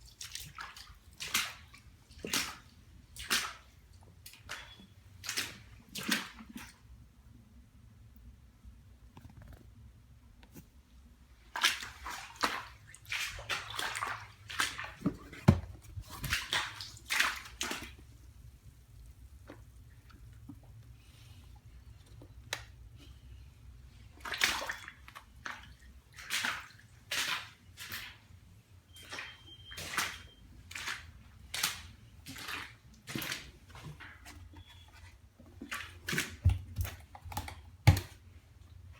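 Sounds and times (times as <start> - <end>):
water sloshing and splashing: 0.0 - 7.0, 11.2 - 38.9.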